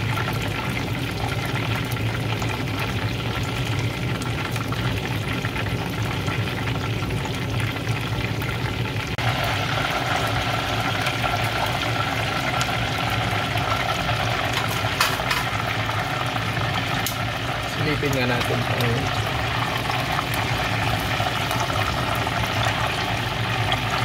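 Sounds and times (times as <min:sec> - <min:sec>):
oil sizzling and bubbling: 0:00.0 - 0:24.0.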